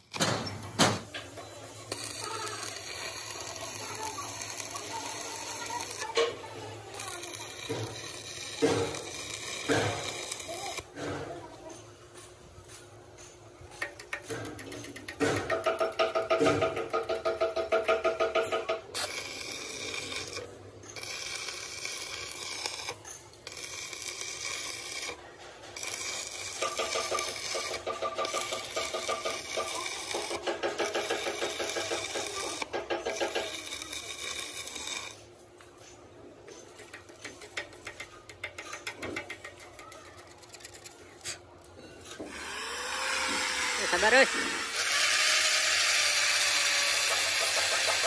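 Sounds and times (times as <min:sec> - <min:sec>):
machine high whine and chatter: 0:00.0 - 0:48.0.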